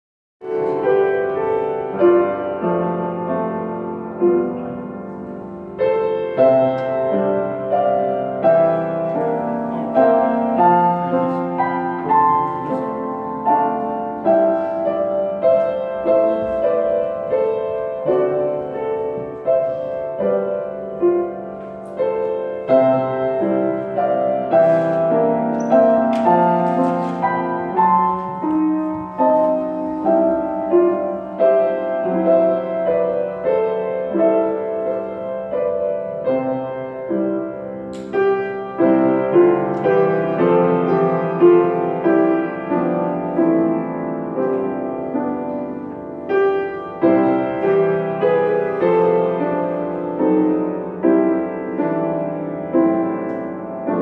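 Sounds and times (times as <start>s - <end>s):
piano music: 0.4s - 54.0s.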